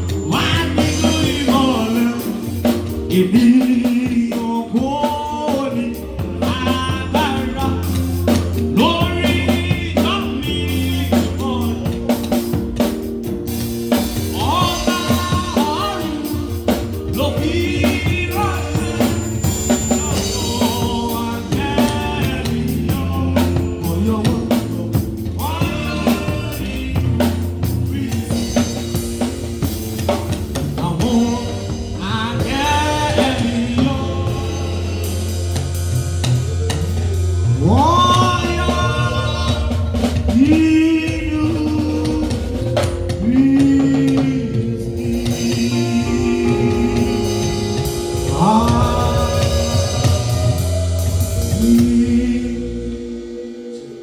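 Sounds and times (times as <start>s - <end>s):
drum kit: 0.0s - 54.0s
steady bass line: 0.0s - 54.0s
youth choir singing gospel: 0.0s - 54.0s.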